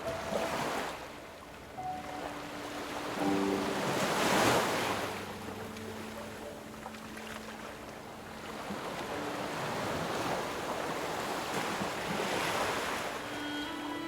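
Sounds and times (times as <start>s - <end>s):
ocean waves surging: 0.0s - 14.0s
soft background music: 0.0s - 14.0s.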